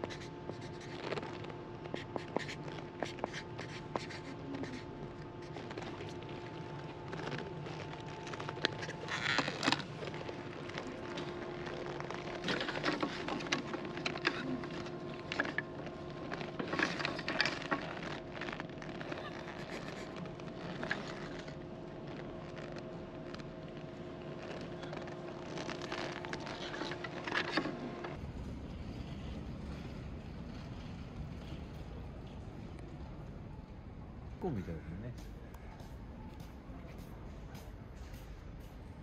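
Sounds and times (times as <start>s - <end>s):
steady background hum: 0.0s - 39.0s.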